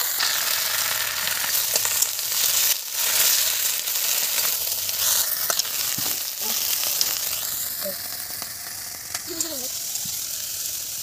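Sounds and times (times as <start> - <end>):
greens sizzling in a wok: 0.0 - 11.0.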